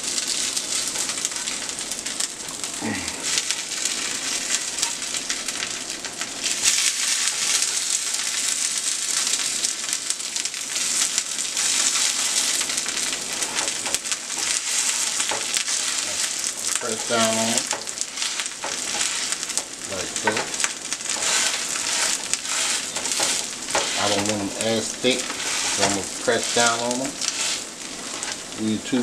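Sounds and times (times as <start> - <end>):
potatoes sizzling in oil: 0.0 - 29.0
spatula turning food in pan: 0.0 - 29.0.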